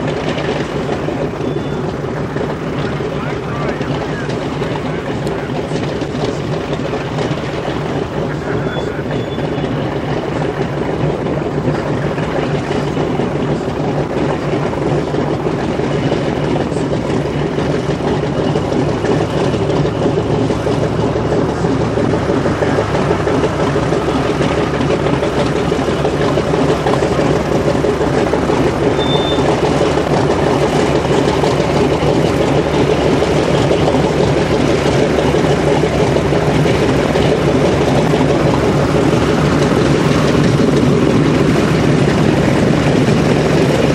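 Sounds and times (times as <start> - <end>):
radial aircraft engine running: 0.0 - 43.9.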